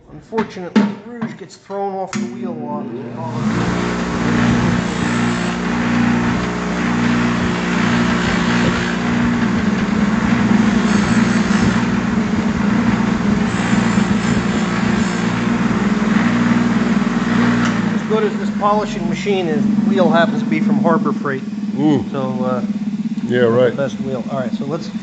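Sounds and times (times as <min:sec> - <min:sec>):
bench buffer motor hum: 0:02.2 - 0:25.0
metal rubbing on spinning buff: 0:03.2 - 0:25.0.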